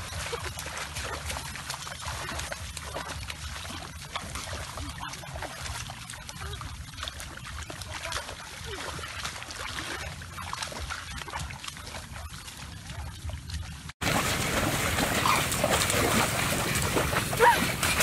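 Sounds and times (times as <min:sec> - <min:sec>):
wading through shallow water: 0:00.0 - 0:18.0.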